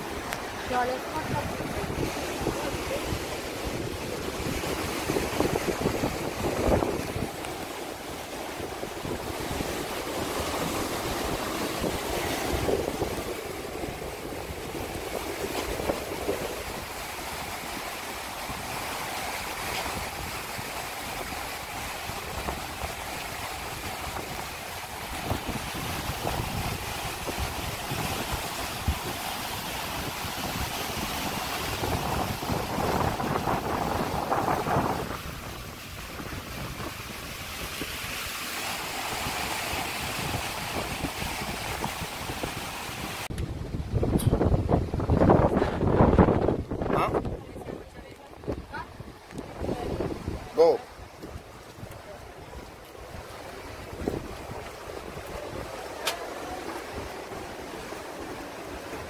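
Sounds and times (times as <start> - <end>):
surf breaking against rocks: 0.0 - 59.0
wind noise on microphone: 0.0 - 59.0.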